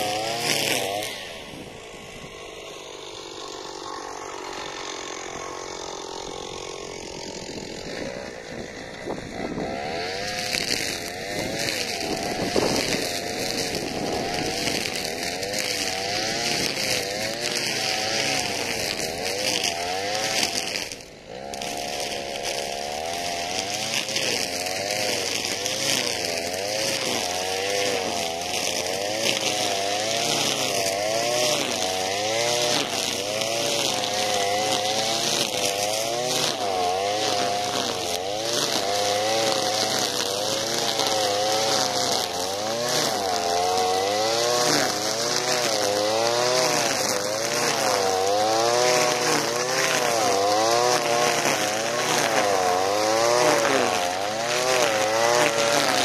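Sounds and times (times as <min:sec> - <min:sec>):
brushcutter engine cutting weeds: 0:00.0 - 0:56.0.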